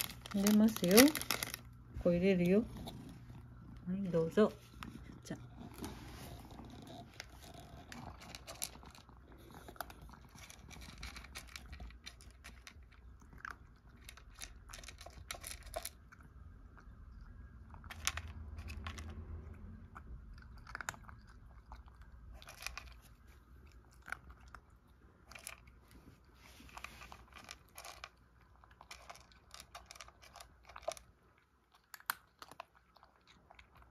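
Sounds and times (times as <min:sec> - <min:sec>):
cat crunching dry kibble: 0:00.0 - 0:33.9.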